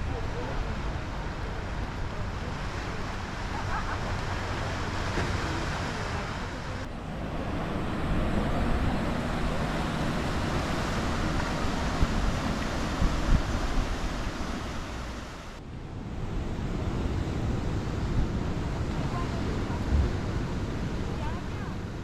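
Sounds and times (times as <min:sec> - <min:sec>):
surf: 0:00.0 - 0:15.6, 0:16.2 - 0:22.0
distant traffic: 0:00.0 - 0:22.0
wind: 0:00.0 - 0:22.0.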